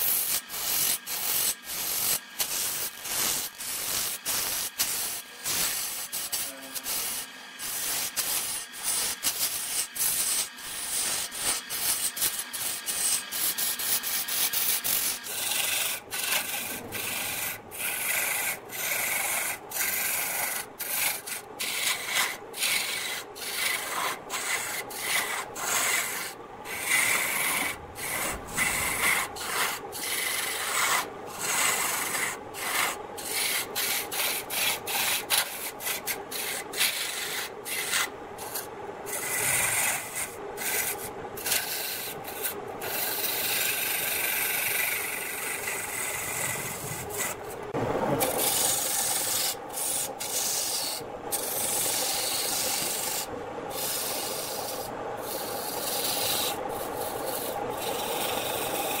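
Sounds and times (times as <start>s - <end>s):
lathe tool scraping spinning log: 0.0s - 59.0s.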